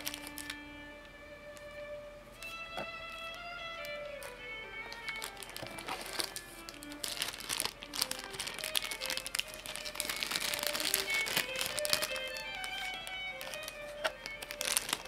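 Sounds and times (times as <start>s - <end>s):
plastic bags crinkling: 0.0s - 0.6s, 3.2s - 15.0s
background music: 0.0s - 15.0s.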